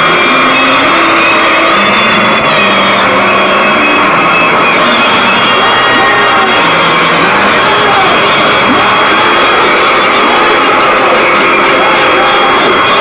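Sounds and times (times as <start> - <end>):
feedback whines: 0.0 - 13.0
harsh noise music: 0.0 - 13.0.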